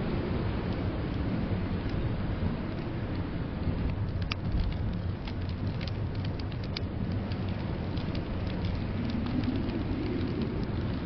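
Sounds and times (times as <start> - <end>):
blizzard wind rumble: 0.0 - 11.0
wood fire crackles: 0.0 - 11.0.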